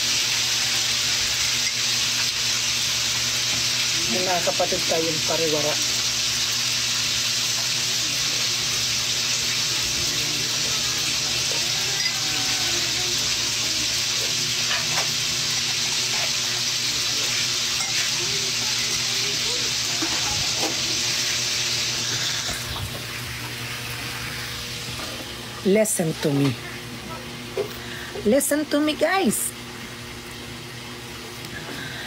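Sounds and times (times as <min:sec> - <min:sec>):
food frying sizzle: 0:00.0 - 0:32.0.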